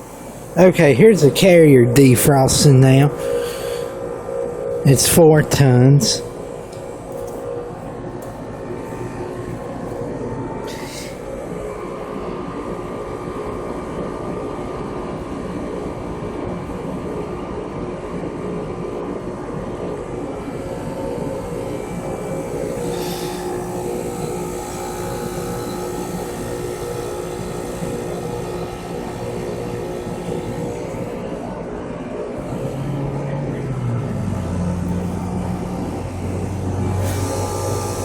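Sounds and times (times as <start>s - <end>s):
heat pump mechanical drone: 0.0s - 38.0s.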